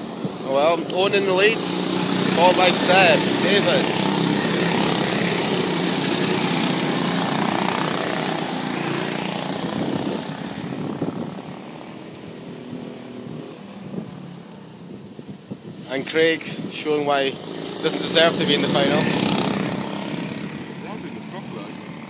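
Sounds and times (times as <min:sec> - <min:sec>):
go-kart engines racing past: 0:00.0 - 0:22.0.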